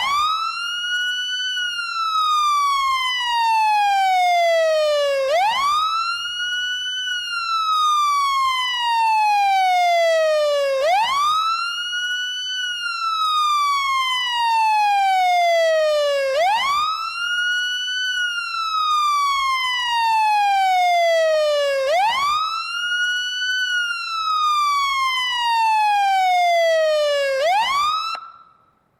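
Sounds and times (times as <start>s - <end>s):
fire truck siren wailing: 0.0s - 28.6s.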